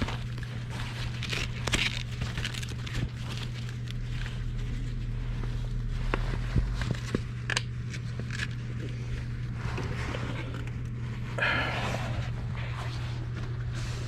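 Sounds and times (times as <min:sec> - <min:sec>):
gas furnace humming: 0:00.0 - 0:14.0.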